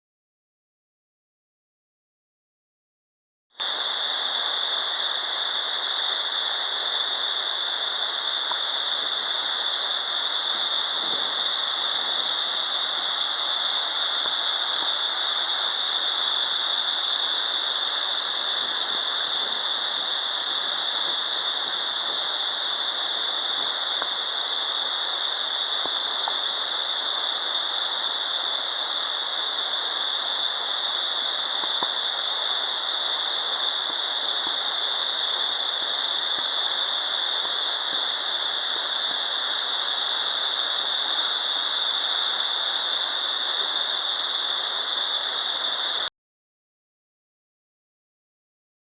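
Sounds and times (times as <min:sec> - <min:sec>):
waterfall rushing: 0:03.6 - 0:46.1.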